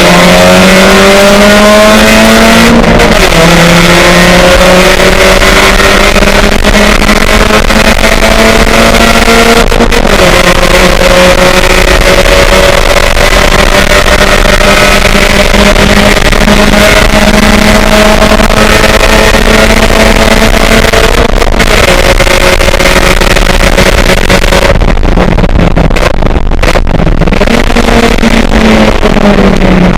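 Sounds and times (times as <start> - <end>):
loud rushing noise: 0.0 - 29.9
race car engine accelerating: 0.0 - 29.9.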